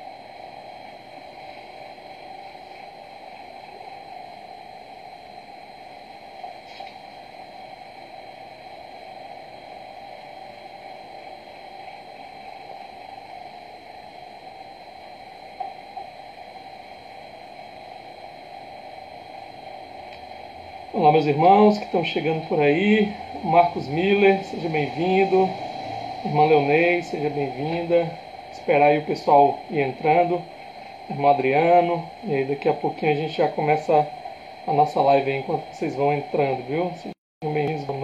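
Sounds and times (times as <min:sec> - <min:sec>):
background hiss and hum: 0:00.0 - 0:38.0
thin high whine: 0:00.0 - 0:38.0.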